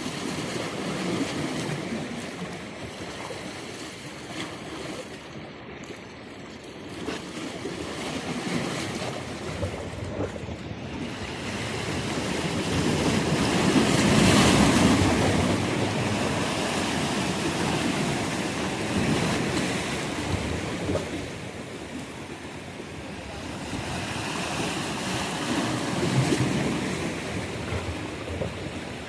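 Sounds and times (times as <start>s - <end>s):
sea waves breaking on shore: 0.0s - 29.0s.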